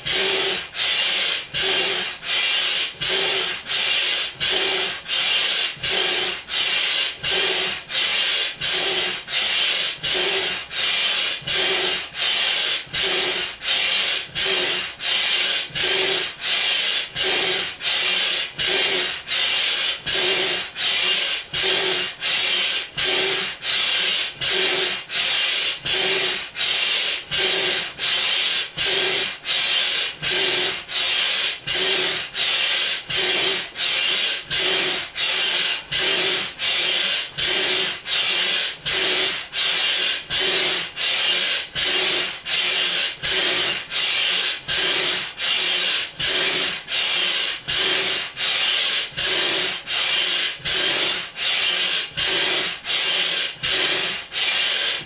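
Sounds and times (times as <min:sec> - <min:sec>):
hand pump hissing air: 0:00.0 - 0:55.0.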